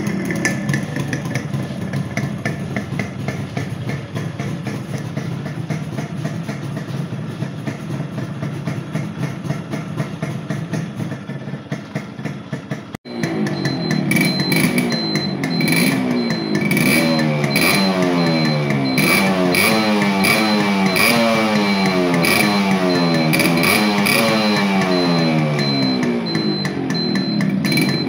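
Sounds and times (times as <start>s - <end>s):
two-stroke motorcycle engine idling: 0.0s - 28.0s.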